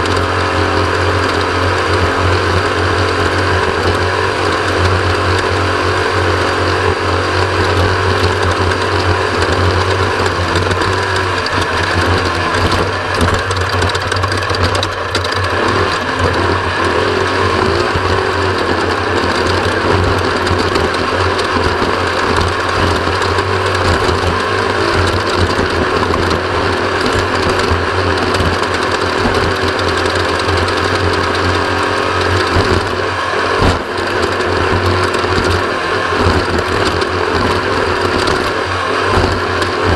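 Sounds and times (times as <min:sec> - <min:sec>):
race vehicle engine running loud: 0:00.0 - 0:39.9.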